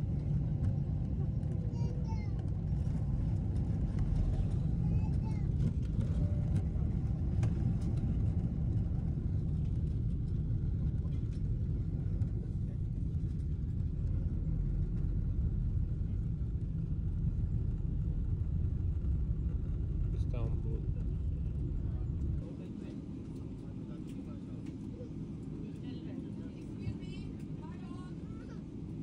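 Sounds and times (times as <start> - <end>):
airliner cabin low rumble: 0.0 - 29.0.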